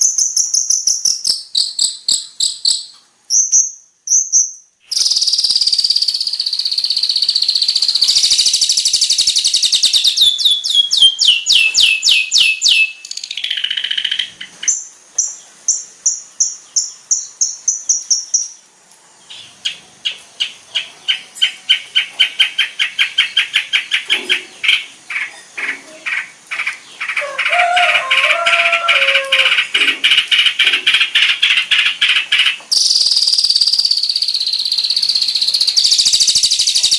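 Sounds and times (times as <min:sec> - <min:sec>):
bird singing varied song: 0:00.0 - 0:36.9.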